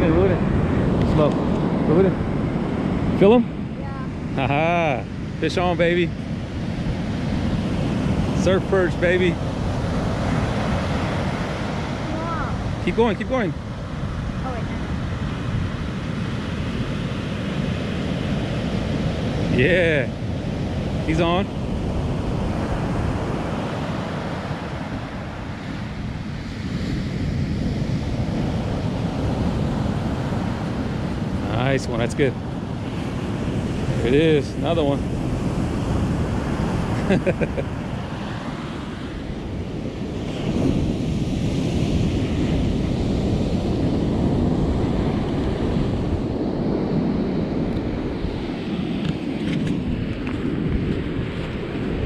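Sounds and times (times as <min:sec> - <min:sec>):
ocean surf breaking on beach: 0:00.0 - 0:52.0
wind buffeting microphone: 0:00.0 - 0:52.0.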